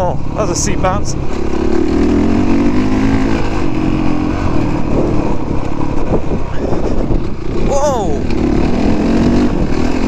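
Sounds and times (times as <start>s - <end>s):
motorcycle engine under throttle: 0.2s - 10.0s.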